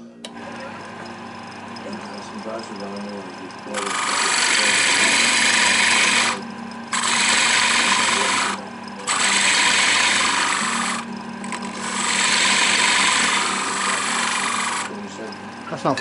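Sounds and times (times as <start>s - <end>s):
lathe humming: 0.0s - 16.0s
lathe cutting rasping hiss: 0.5s - 15.9s.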